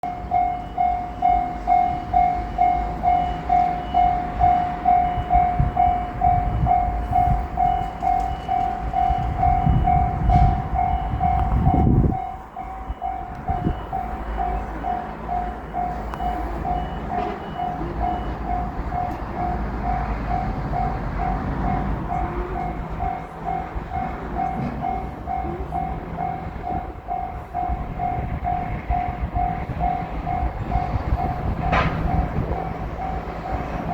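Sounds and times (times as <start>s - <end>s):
crossing bell ringing: 0.0s - 33.9s
train rumble: 0.0s - 33.9s.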